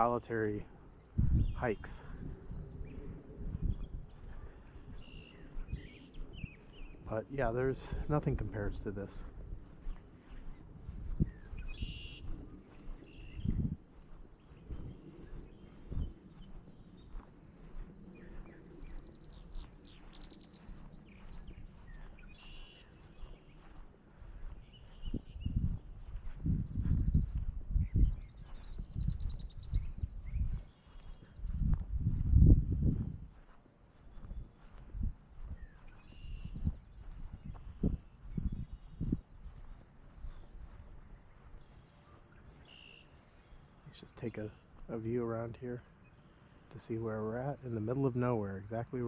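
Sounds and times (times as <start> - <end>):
footsteps on a trail: 0.0 - 46.9
songbirds chirping: 0.0 - 49.0.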